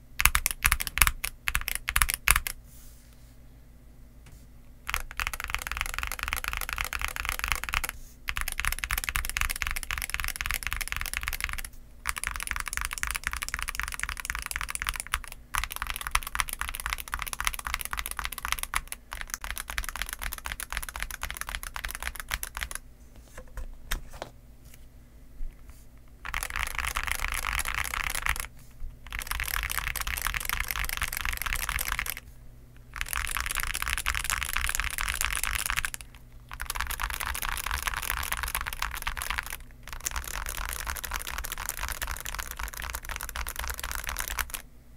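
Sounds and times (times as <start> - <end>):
mechanical keyboard typing: 0.2 - 2.6, 4.9 - 22.8, 26.2 - 32.2, 32.9 - 44.6.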